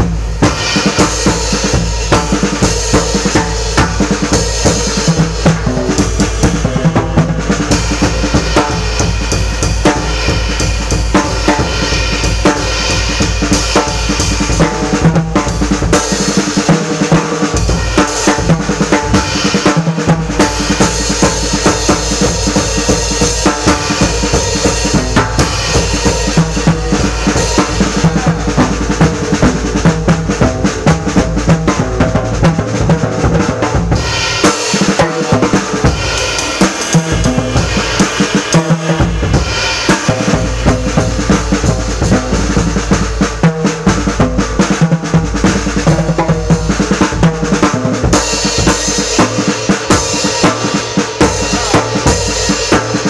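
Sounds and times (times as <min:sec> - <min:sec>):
jazz drum solo: 0:00.0 - 0:53.0.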